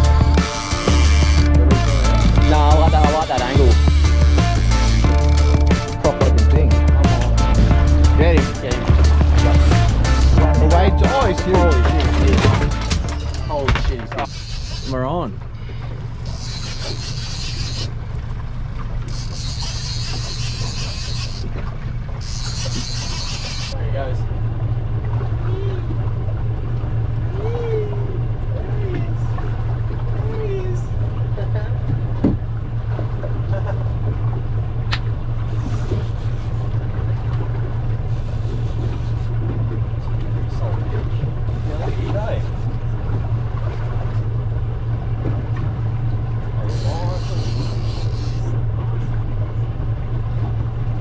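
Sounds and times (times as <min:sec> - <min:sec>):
boat engine humming: 0:00.0 - 0:51.0
outboard motor idling: 0:00.0 - 0:51.0
water noise: 0:00.0 - 0:51.0
wind: 0:00.0 - 0:51.0.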